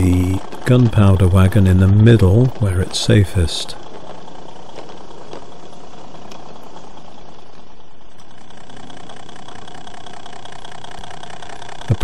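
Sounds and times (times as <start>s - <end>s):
model diesel locomotive engine: 0.0s - 12.0s.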